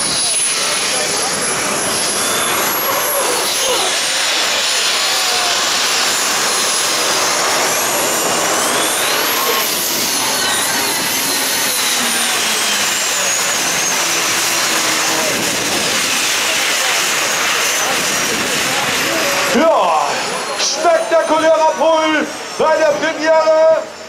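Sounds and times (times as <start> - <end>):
turbine engines roaring with whine: 0.0 - 24.0.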